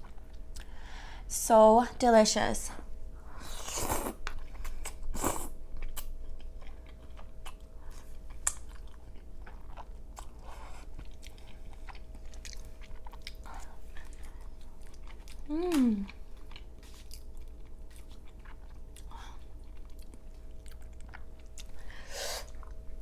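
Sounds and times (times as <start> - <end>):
close chewing with mouth clicks: 3.7 - 22.9.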